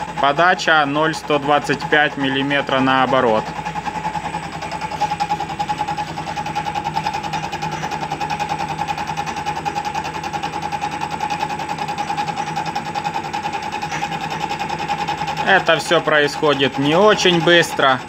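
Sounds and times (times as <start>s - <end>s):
fast even pulsing of gears: 0.0s - 18.0s
metal lathe whining: 0.0s - 18.0s.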